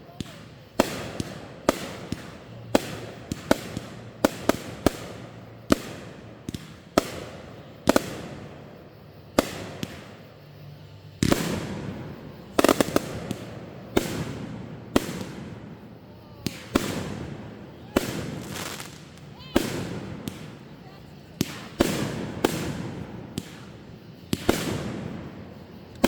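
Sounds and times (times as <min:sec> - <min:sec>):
fireworks bangs and crackle: 0:00.0 - 0:10.5, 0:11.1 - 0:26.0.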